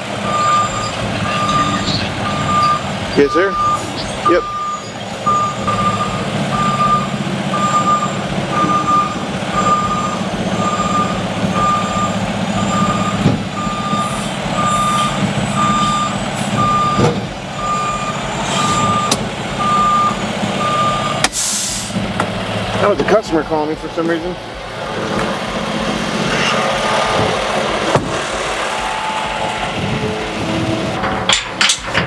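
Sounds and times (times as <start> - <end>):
truck backup alarm beeping: 0.0 - 31.2
diesel engine running: 0.0 - 32.0.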